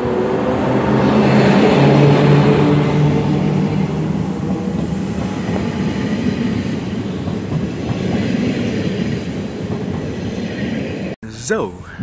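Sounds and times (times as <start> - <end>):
electric locomotive hum: 0.0 - 11.1
train wheels rumbling on rail: 0.0 - 11.2.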